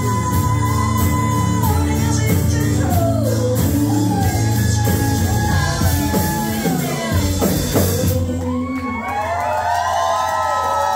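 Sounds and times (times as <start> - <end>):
live band playing: 0.0 - 9.4
lead singer singing: 0.0 - 9.6.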